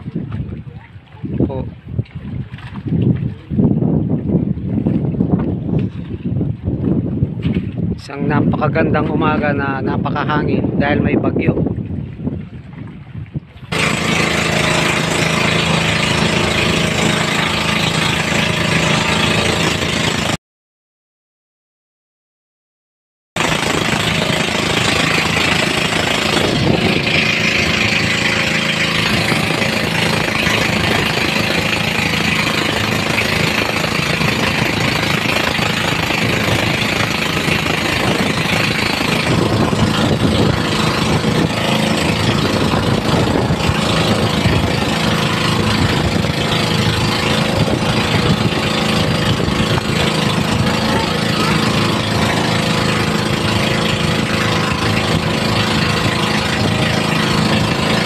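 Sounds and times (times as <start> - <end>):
boat engine running: 0.0 - 20.4, 23.4 - 58.0
wind and water rushing: 0.0 - 20.4, 23.4 - 58.0.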